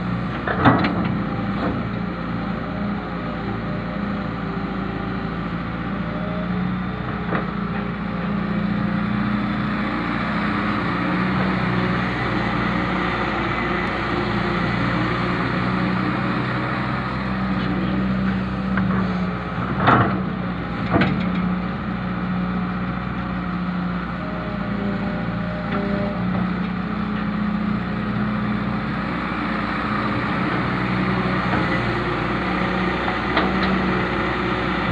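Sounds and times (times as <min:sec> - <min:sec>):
excavator diesel engine: 0:00.0 - 0:34.9.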